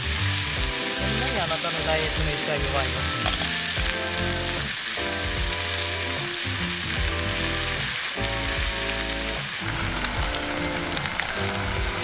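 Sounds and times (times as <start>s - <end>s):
background music: 0.0s - 12.0s
food sizzling in a skillet: 0.0s - 12.0s.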